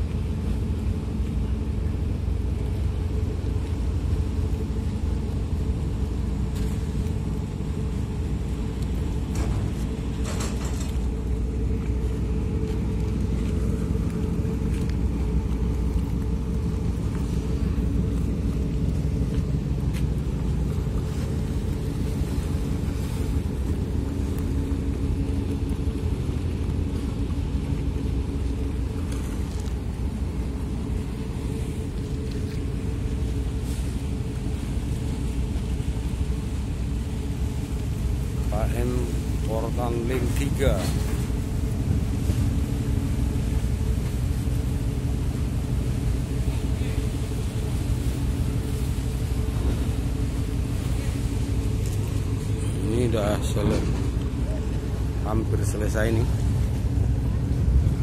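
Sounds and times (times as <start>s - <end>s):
constant hum: 0.0s - 58.0s
ferry engines rumbling: 0.0s - 58.0s.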